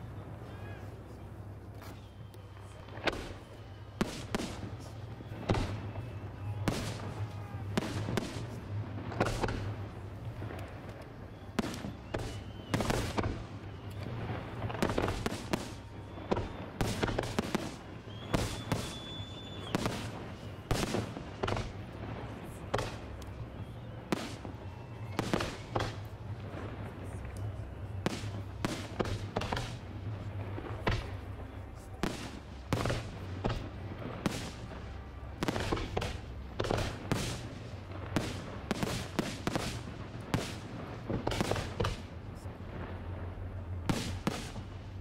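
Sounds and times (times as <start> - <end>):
fireworks bangs: 1.7 - 45.0.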